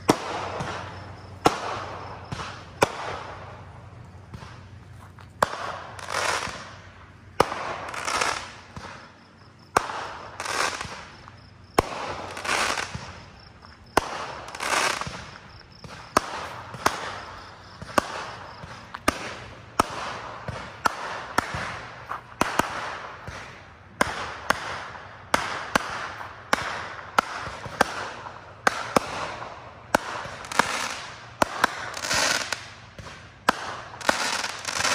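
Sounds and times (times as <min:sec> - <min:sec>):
crackling of bursting fireworks: 0:00.0 - 0:34.9
fireworks cracking: 0:00.0 - 0:34.9.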